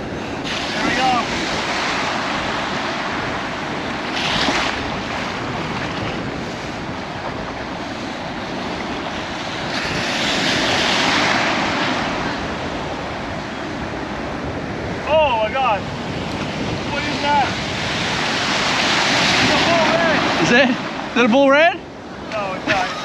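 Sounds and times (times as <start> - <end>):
ocean surf breaking on beach: 0.0 - 23.0
wind buffeting microphone: 0.0 - 23.0.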